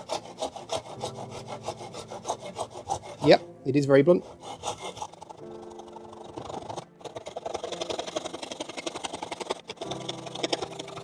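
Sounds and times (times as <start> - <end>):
hand saw rasping through plastic: 0.0 - 3.4, 4.1 - 11.0.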